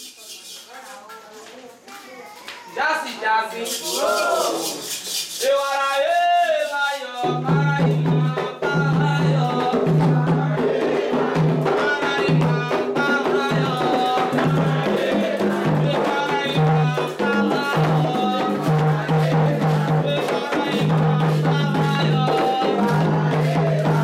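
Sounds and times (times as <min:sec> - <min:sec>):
other percussion: 0:02.3 - 0:24.0
hand drums playing fast rhythm: 0:03.7 - 0:24.0.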